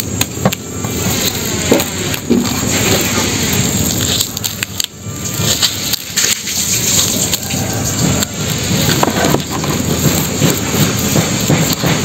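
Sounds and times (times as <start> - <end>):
sharp clicks and crackles: 0.0 - 12.0
steady high hiss: 0.0 - 12.0
plastic twine rustling and scraping: 0.8 - 12.0.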